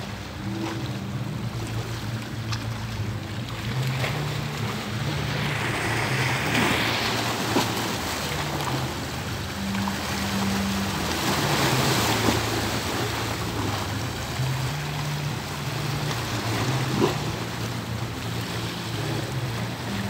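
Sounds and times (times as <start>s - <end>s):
sea waves washing: 0.0s - 20.0s
slow low background music: 0.0s - 20.0s.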